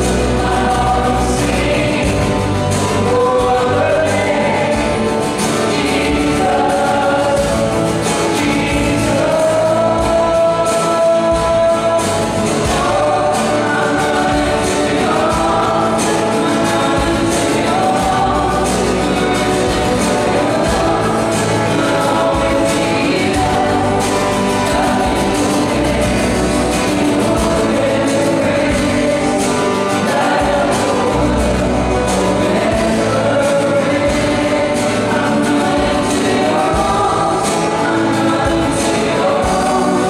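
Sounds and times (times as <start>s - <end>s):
band playing: 0.0s - 40.0s
man and woman singing: 0.0s - 40.0s.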